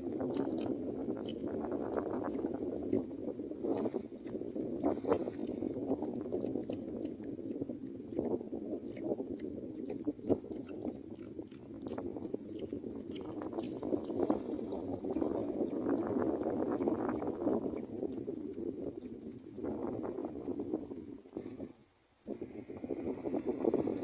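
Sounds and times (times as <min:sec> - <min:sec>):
strong wind gusting: 0:00.0 - 0:24.0.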